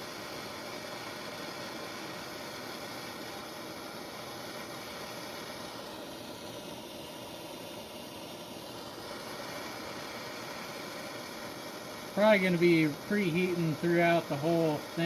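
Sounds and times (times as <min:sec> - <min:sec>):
propane torch flame rushing: 0:00.0 - 0:15.0.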